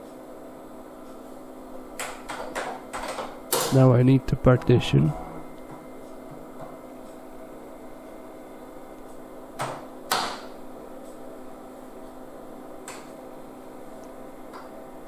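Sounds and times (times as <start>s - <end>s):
computer fan hum: 0.0s - 15.0s.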